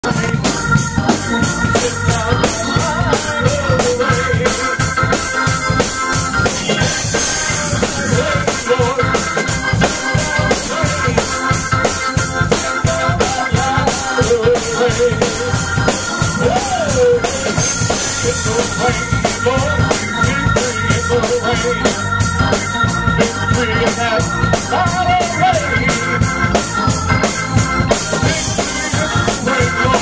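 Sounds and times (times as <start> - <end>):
organ chords: 0.0 - 30.0
steady drum beat: 0.0 - 30.0.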